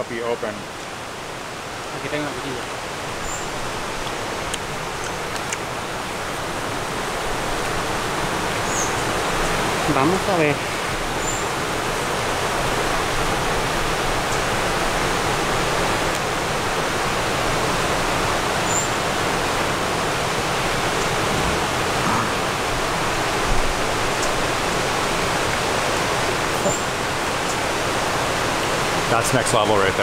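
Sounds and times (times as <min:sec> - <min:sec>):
running water: 0:00.0 - 0:30.0.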